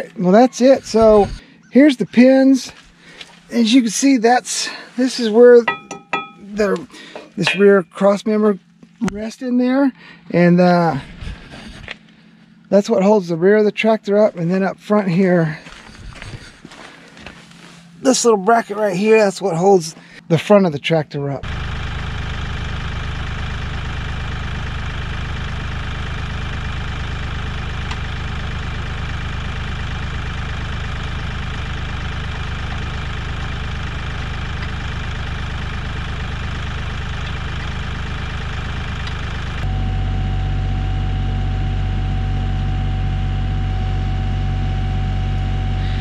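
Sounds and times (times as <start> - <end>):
steady whine: 0.0 - 20.2, 27.4 - 46.0
tractor diesel engine running: 0.0 - 46.0.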